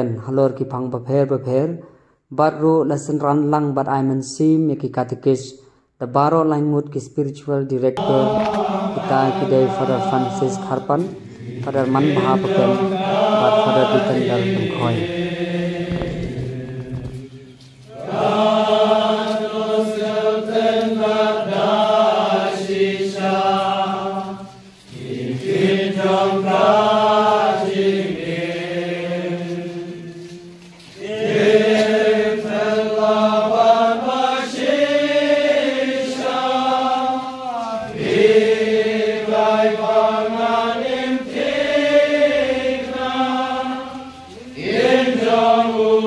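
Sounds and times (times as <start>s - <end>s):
voices singing together: 8.0s - 46.0s.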